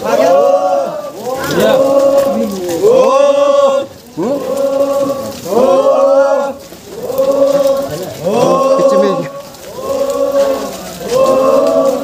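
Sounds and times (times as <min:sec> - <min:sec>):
voices chanting a phrase: 0:00.0 - 0:12.0.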